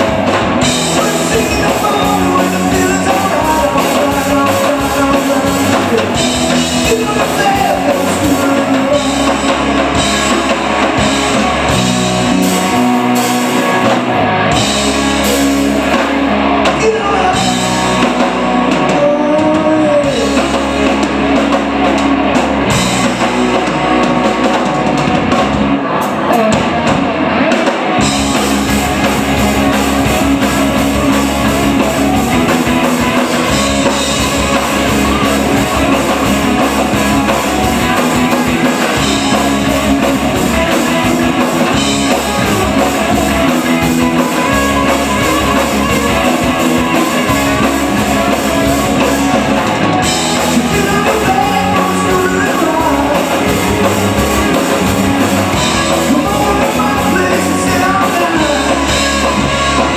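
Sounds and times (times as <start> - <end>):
hard rock band playing: 0.0 - 59.9.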